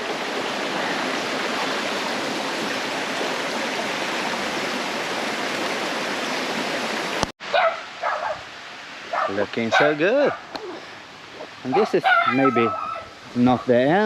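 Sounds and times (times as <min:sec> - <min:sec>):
waterfall water rushing: 0:00.0 - 0:14.0.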